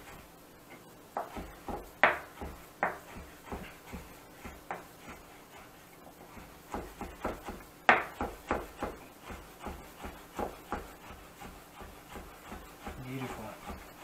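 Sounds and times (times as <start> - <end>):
knife chopping on cutting board: 1.1 - 5.7, 6.3 - 14.0.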